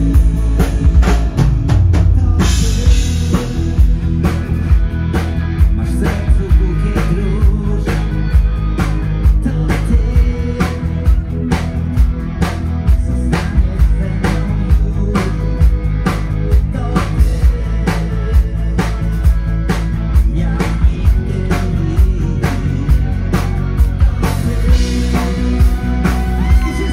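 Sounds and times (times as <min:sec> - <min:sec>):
bass: 0:00.0 - 0:26.9
electric guitars: 0:00.0 - 0:26.9
steady drum beat: 0:00.0 - 0:26.9.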